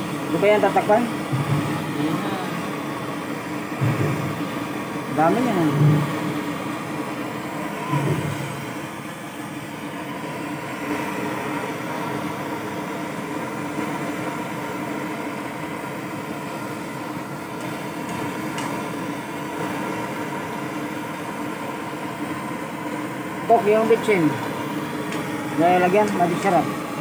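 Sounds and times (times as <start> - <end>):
gas burner hissing: 0.0 - 27.0.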